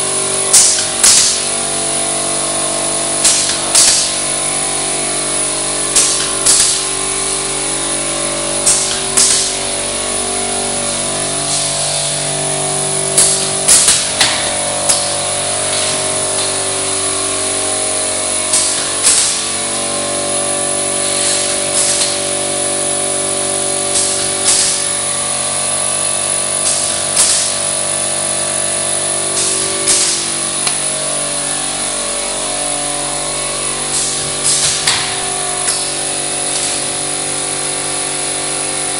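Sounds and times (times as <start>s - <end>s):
machine humming: 0.0s - 38.9s
sharp machine clacks: 0.2s - 1.8s, 2.6s - 7.4s, 8.6s - 10.0s, 10.9s - 31.6s, 33.8s - 38.4s.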